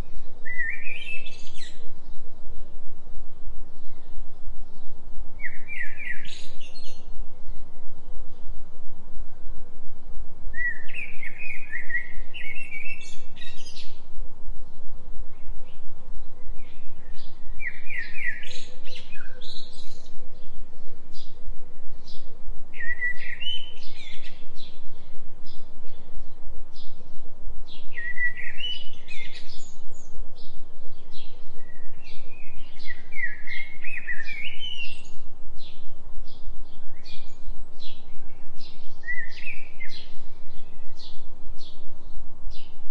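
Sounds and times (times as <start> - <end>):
songbird warbling chirps: 0.0 - 2.6, 3.7 - 8.6, 10.5 - 14.1, 14.8 - 42.9.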